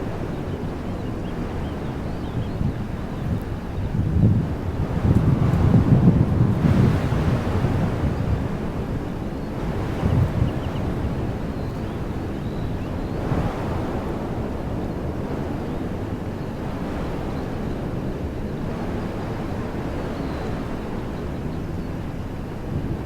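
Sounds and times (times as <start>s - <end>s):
wind blowing through trees: 0.0s - 23.0s
wind buffeting microphone: 0.0s - 23.0s.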